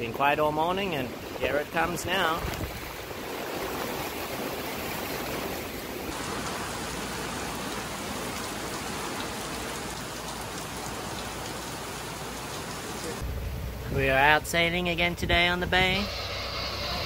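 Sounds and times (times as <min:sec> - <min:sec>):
heavy rain on a boat deck: 0:00.0 - 0:17.0.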